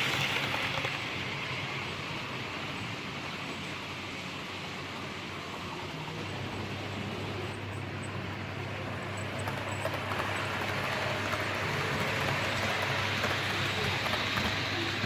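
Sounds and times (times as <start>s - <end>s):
model locomotive drone: 0.0s - 15.0s.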